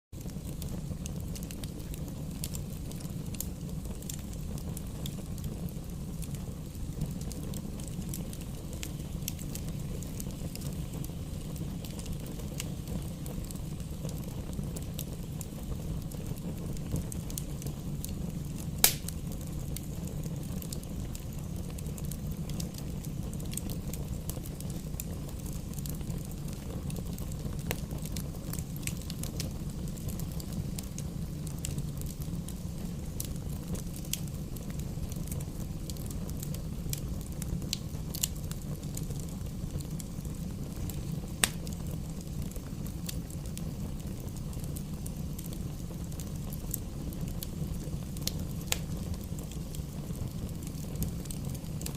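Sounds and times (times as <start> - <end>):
burning logs crackling: 0.2 - 51.9
fire flames rumbling: 0.2 - 51.9.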